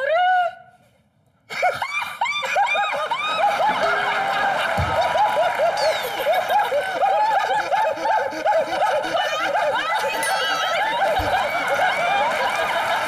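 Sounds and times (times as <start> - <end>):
studio audience laughing: 1.5 - 13.0.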